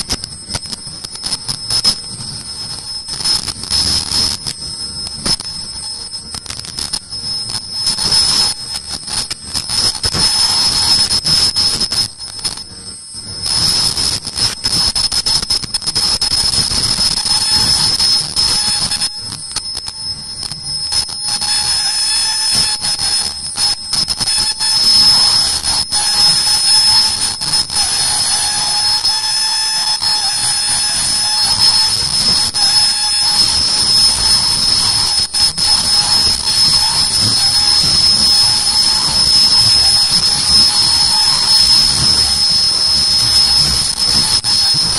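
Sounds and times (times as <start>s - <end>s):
high-pitched machine whine: 0.0s - 44.9s.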